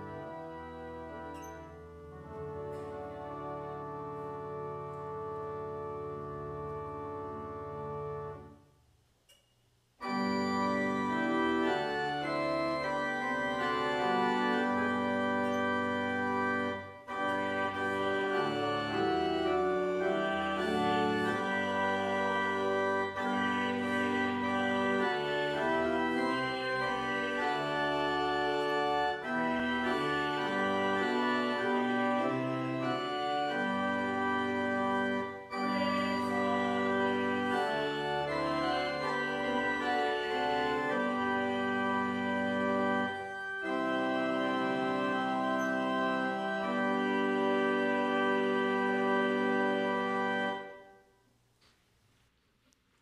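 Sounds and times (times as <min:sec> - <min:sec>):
church organ chords: 0:00.0 - 0:08.7, 0:10.0 - 0:51.3.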